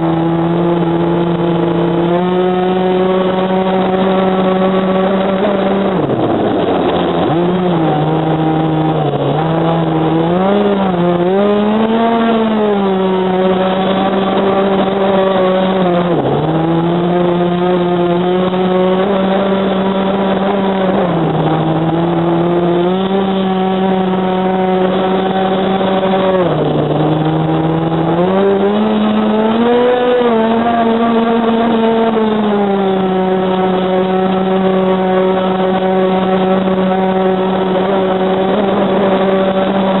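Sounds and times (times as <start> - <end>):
two-stroke boat engine revving: 0.0 - 40.0.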